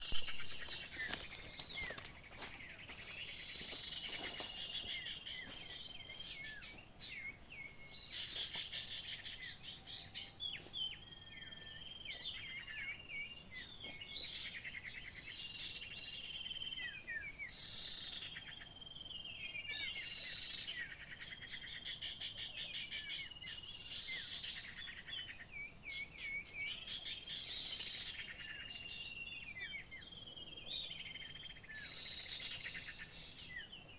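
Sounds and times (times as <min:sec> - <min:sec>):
songbird singing trills and chirps: 0:00.0 - 0:33.9.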